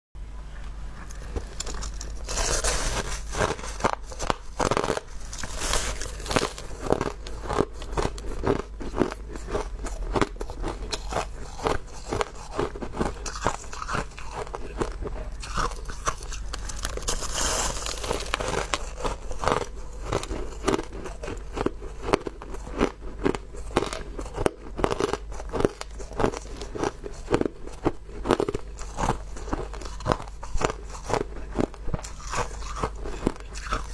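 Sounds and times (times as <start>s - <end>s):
ice crunching being chewed: 1.0s - 33.9s.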